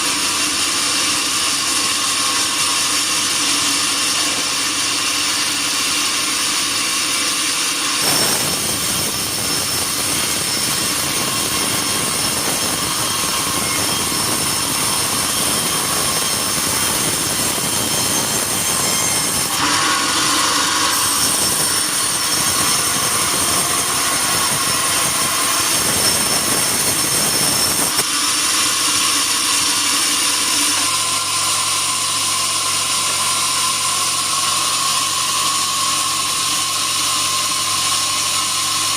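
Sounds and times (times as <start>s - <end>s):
bandsaw high whine: 0.0s - 38.9s
saw blade cutting wood: 0.0s - 38.9s.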